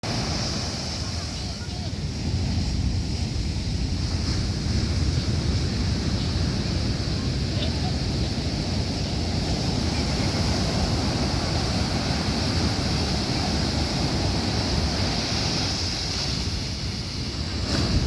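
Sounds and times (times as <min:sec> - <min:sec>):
ocean surf: 0:00.0 - 0:18.0
wind buffeting microphone: 0:00.0 - 0:18.0.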